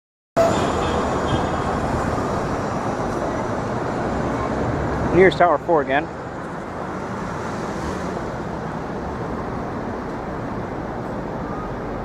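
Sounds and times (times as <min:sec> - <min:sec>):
city hum: 0:00.4 - 0:12.0
passing cars: 0:00.4 - 0:12.0.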